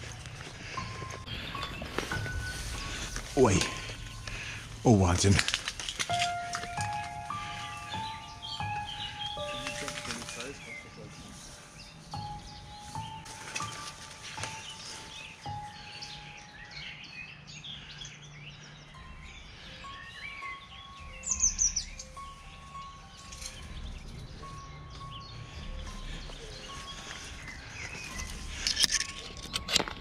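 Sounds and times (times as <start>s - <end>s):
songbirds singing: 0.0s - 30.0s.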